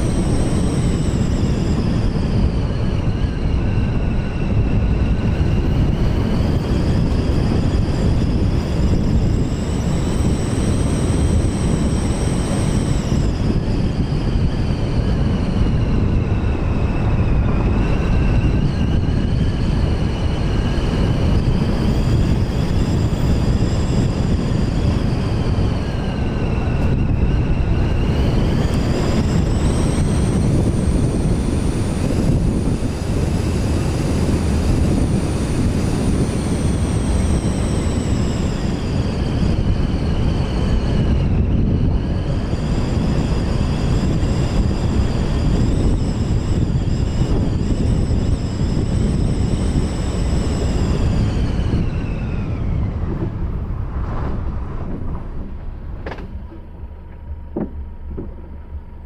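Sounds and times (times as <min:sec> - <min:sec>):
car engine: 0:00.0 - 0:59.0
wind: 0:00.0 - 0:59.0.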